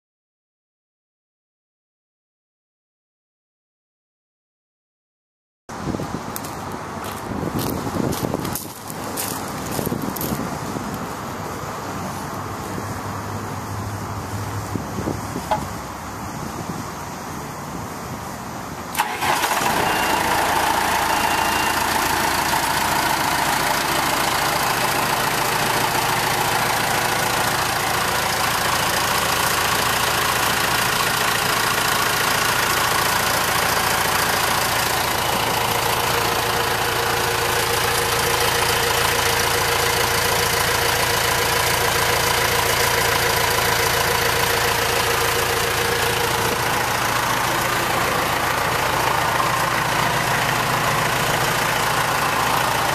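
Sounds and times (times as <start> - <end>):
diesel engine starting and running: 5.7 - 52.9.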